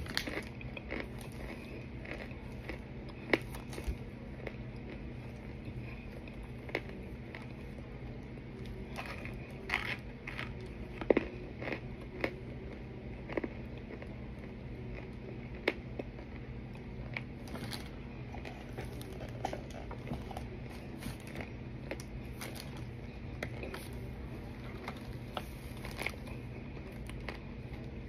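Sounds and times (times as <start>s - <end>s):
low hum: 0.0s - 28.0s
person chewing crunchy food: 0.0s - 28.0s.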